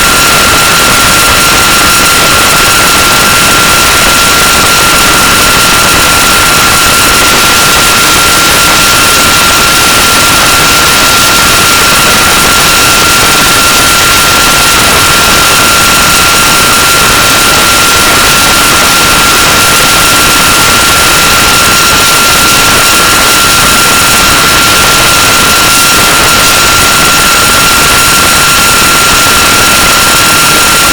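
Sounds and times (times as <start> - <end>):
static hiss: 0.0 - 30.9.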